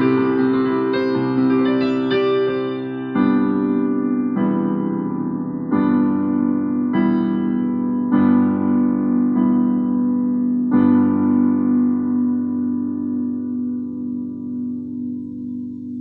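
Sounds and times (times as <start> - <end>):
keyboard playing slow chords: 0.0 - 16.0.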